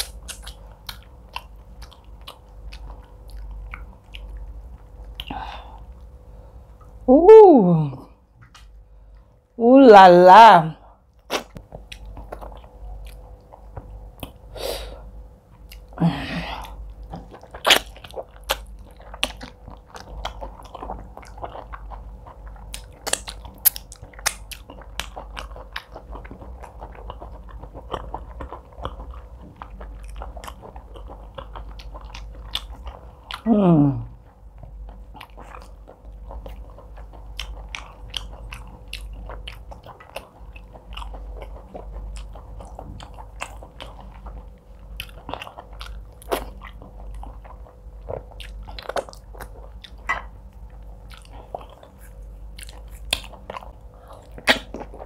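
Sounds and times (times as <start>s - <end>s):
chewing and mouth sounds: 0.0s - 7.0s, 11.1s - 14.5s, 15.5s - 55.0s.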